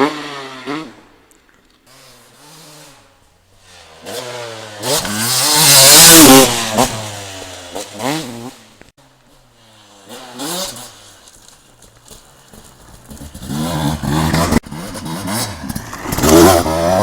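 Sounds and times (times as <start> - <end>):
motocross motorcycle engine revving: 0.0 - 1.2, 1.9 - 11.4, 12.0 - 17.0.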